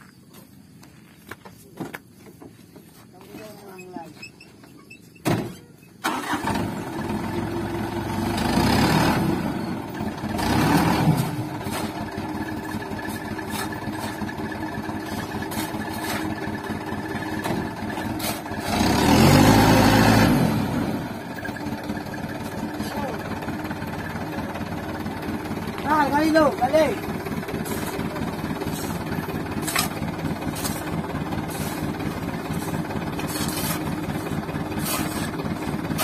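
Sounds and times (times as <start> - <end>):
diesel engine revving: 6.0 - 36.0.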